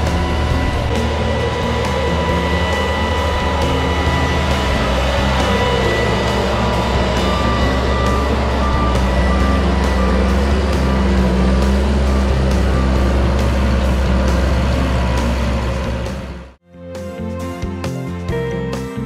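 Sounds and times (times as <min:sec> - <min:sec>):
electronic reversing beep: 0:00.0 - 0:16.5
tractor engine humming: 0:00.0 - 0:16.6
background music: 0:00.0 - 0:19.0.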